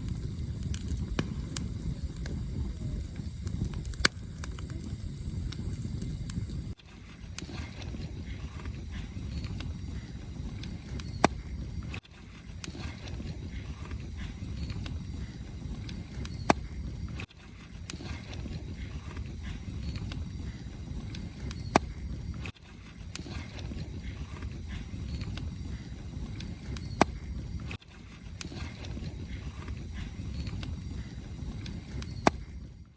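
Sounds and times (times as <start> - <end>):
campfire flames rumbling: 0.0 - 32.9
firewood crackling and popping: 0.0 - 32.9.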